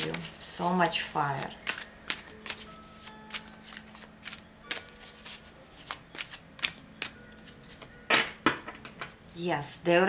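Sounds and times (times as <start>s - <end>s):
cards slapping: 0.0s - 9.0s
cards shuffling: 0.0s - 9.1s.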